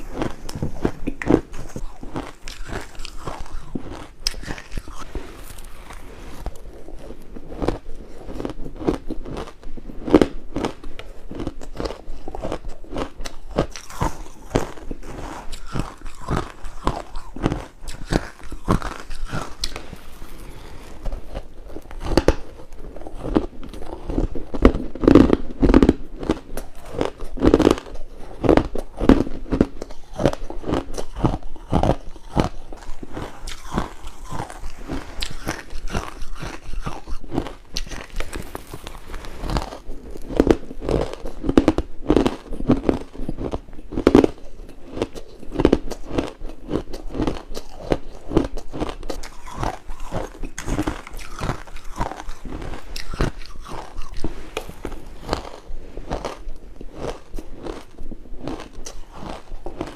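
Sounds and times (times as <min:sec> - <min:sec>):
person chewing crunchy ice: 0:00.0 - 0:59.9.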